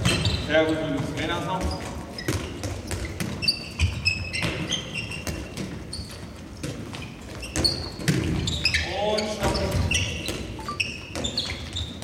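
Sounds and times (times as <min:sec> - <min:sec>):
balls bouncing on hall floor: 0:00.0 - 0:12.0
shoes squeaking on floor: 0:00.0 - 0:12.0.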